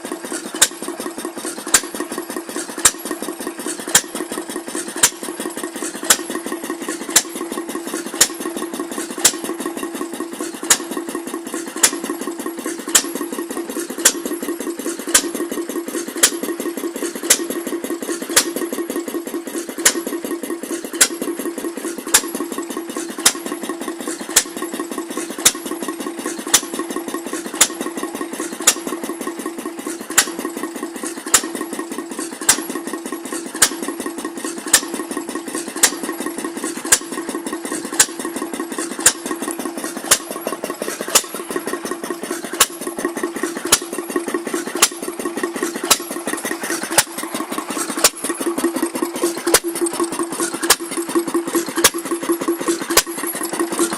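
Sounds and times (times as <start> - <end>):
sharp engine clack: 0.0 - 53.9
stationary engines chugging: 0.0 - 53.9.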